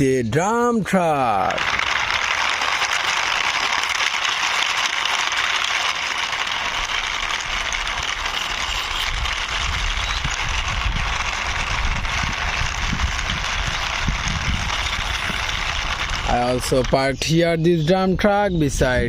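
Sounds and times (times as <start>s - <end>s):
plastic toy wheels rolling: 0.9s - 18.2s.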